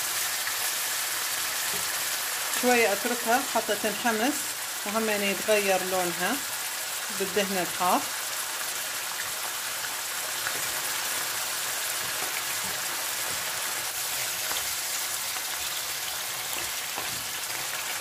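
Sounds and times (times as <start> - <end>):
livers sizzling in hot oil: 0.0 - 18.0.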